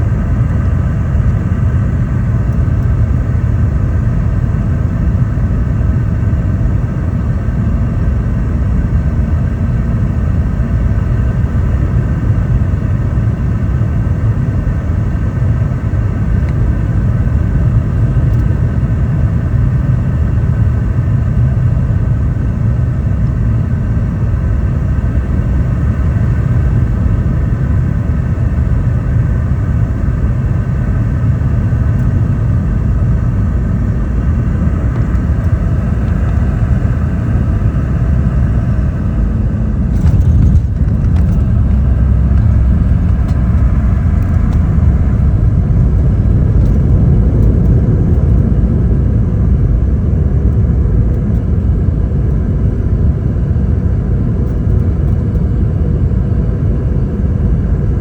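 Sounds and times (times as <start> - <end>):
airliner cabin rumble: 0.0 - 58.0
jet engine whine: 0.0 - 58.0.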